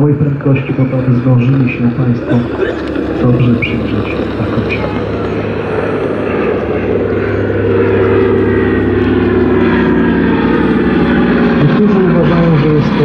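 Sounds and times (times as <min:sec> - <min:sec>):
propeller aircraft drone: 0:00.0 - 0:13.0.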